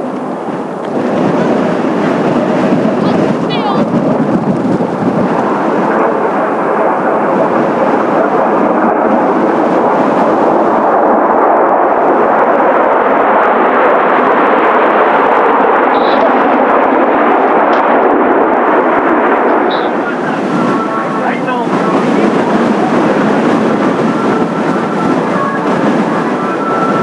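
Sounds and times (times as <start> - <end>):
jet engines roaring: 0.0 - 27.0
wind buffeting microphone: 0.0 - 27.0.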